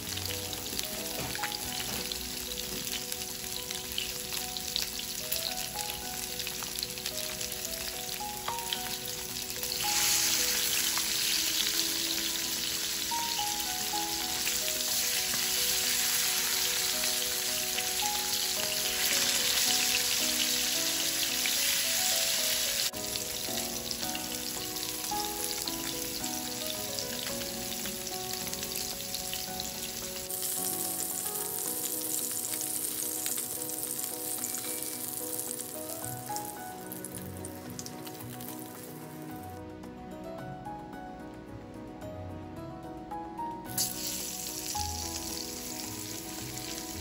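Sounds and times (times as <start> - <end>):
fish sizzling in oil: 0.0 - 39.6, 43.7 - 47.0
gentle background music: 0.0 - 47.0.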